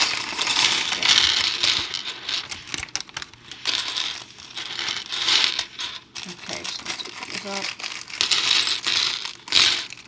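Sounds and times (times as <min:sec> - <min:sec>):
plastic pieces clattering: 0:00.0 - 0:10.0.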